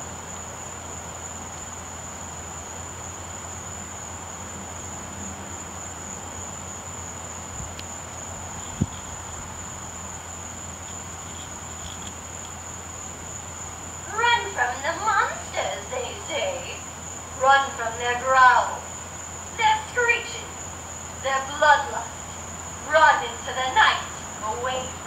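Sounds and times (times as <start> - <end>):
insects trilling: 0.0 - 25.0
low steady hum: 0.0 - 25.0.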